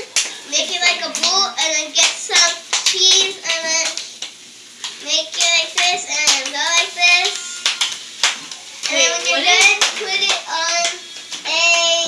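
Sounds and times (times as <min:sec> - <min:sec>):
child's sing-song voice: 0:00.0 - 0:04.2, 0:05.0 - 0:07.5, 0:08.8 - 0:12.0.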